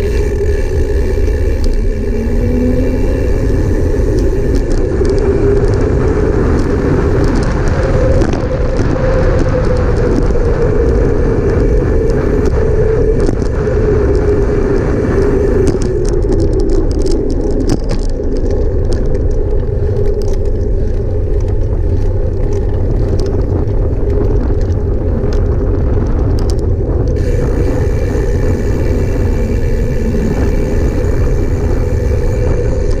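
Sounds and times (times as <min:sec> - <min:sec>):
road rumble: 0:00.0 - 0:33.0
vehicle engine hum: 0:00.0 - 0:33.0.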